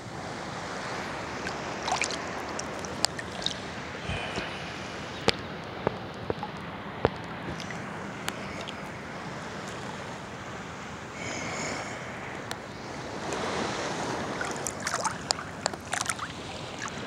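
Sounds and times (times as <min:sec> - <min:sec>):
sea water lapping and sloshing: 0:00.0 - 0:17.0
wind on microphone: 0:00.0 - 0:17.0
splashes and drips: 0:00.8 - 0:17.0.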